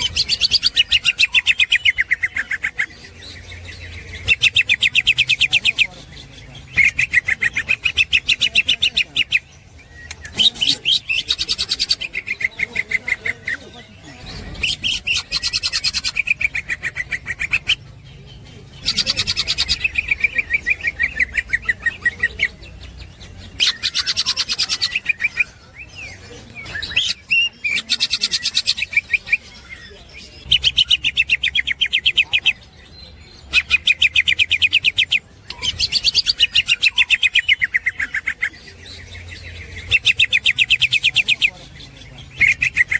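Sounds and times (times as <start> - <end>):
bird rapid chattering song: 0.0 - 42.9.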